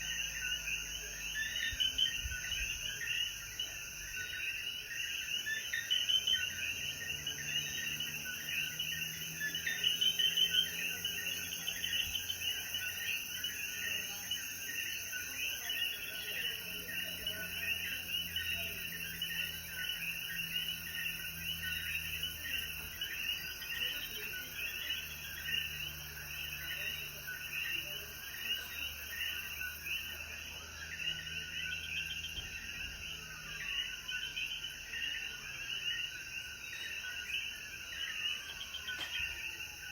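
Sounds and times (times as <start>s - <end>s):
frogs chirping: 0.0s - 39.9s.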